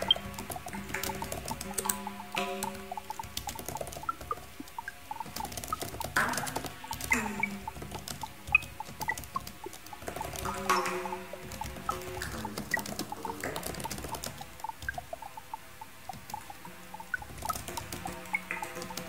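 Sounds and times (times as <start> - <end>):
clicks and crackle: 0.0 - 19.0
glitchy electronic pips: 0.0 - 19.0
held electronic tones: 0.0 - 19.0.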